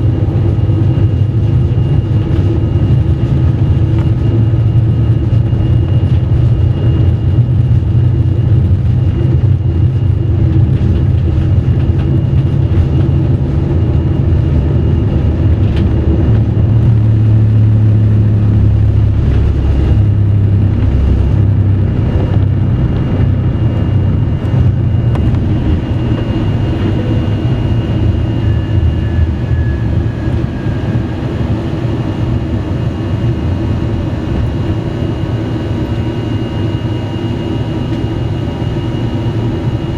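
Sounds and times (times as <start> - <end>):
faint steady whine: 0.0 - 39.9
jet engine rumble in cabin: 0.0 - 39.9.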